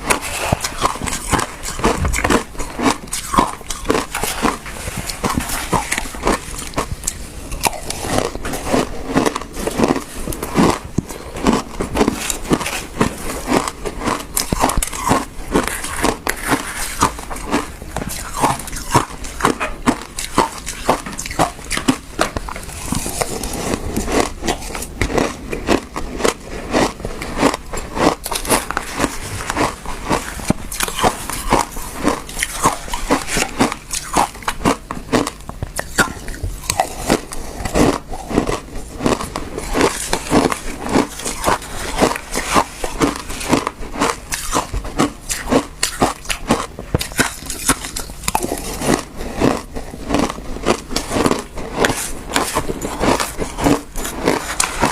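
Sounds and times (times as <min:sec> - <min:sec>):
crunchy chewing of frozen ice: 0:00.0 - 0:54.9.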